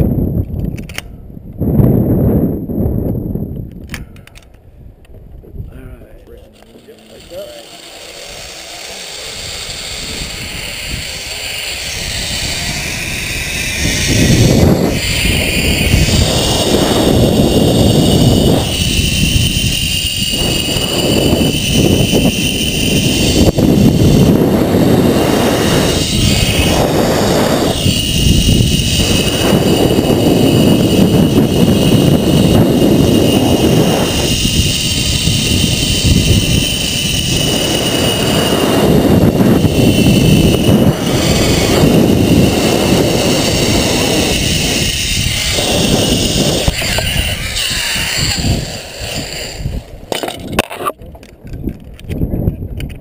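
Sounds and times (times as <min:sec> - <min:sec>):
wind rush on microphone: 0:00.0 - 0:53.0
pulley wheels whining on cable: 0:06.2 - 0:52.2.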